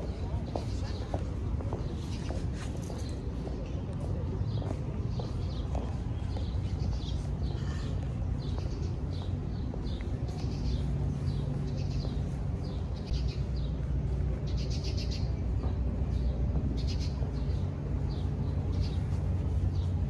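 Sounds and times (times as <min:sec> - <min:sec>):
small birds chirping and trilling: 0:00.0 - 0:20.0
steady low rumble: 0:00.0 - 0:20.0.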